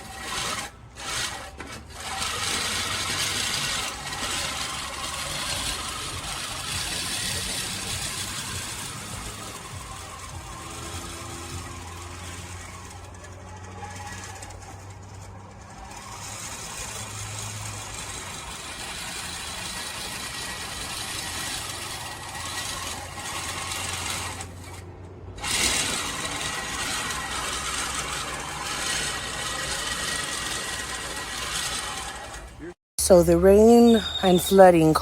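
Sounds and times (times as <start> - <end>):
reel mower clattering: 0.0 - 32.6.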